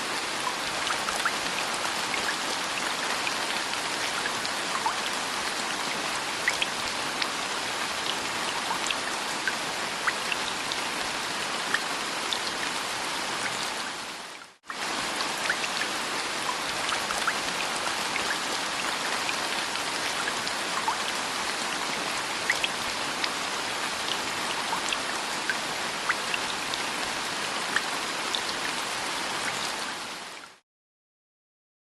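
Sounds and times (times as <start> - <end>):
steady rain: 0.0 - 30.6.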